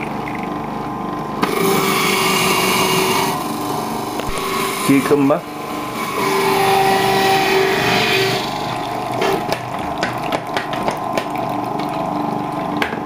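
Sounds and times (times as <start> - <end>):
juicer motor whining: 0.0 - 13.0.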